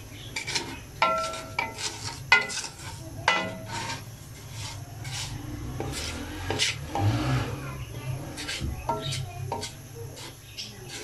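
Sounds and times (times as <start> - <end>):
spatula scraping pot: 0.1 - 11.0
spatula clinking metal pot: 0.3 - 7.1, 8.4 - 11.0.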